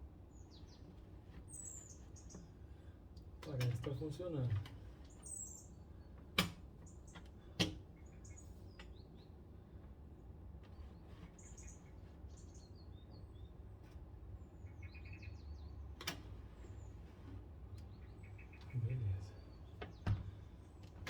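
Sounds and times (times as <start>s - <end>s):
small birds chirping: 0.2s - 2.9s, 3.5s - 21.0s.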